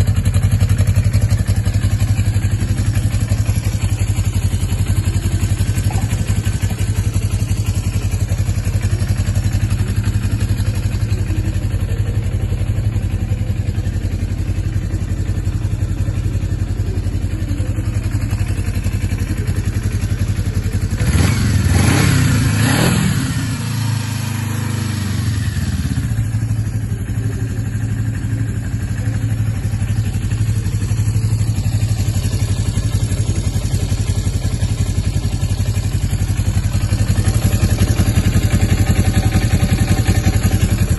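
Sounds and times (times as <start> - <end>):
motorcycle engine idling: 0.0 - 40.9
motorcycle engine revving: 0.0 - 40.9.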